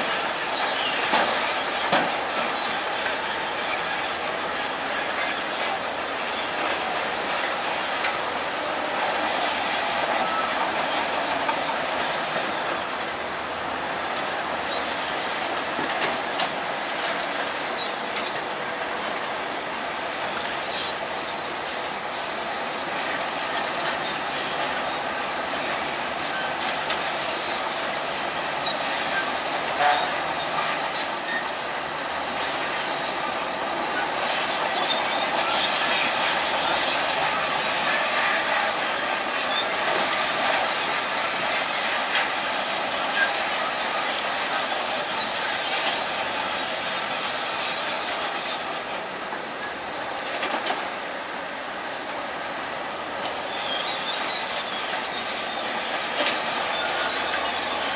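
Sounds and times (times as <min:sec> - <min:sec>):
bulldozer tracks clattering: 0:00.0 - 0:57.9.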